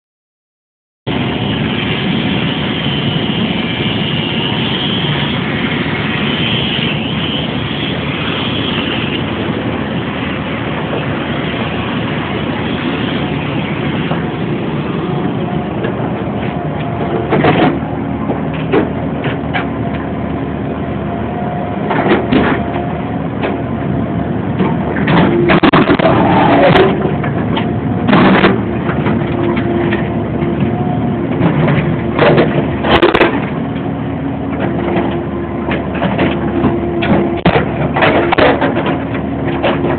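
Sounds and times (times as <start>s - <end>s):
excavator engine running: 1.1s - 39.9s
machine whine: 1.1s - 39.9s.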